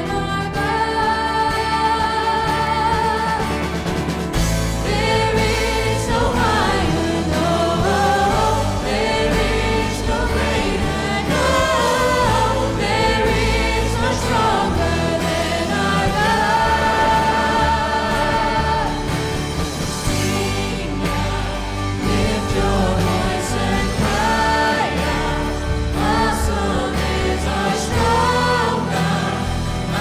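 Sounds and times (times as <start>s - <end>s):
bass: 0.0s - 30.0s
guitar: 0.0s - 30.0s
keyboard: 0.0s - 30.0s
singers singing together: 0.0s - 30.0s.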